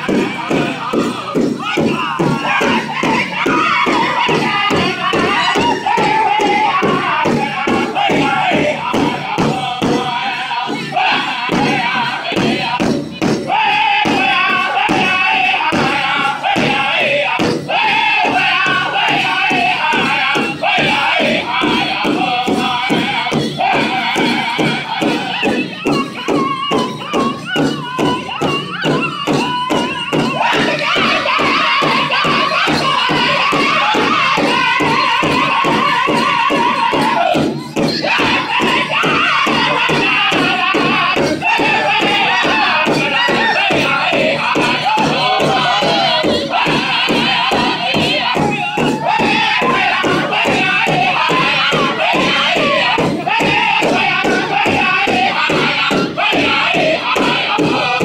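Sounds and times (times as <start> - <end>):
large drum beating fast: 0.0 - 58.0
men singing in high voices: 0.0 - 58.0.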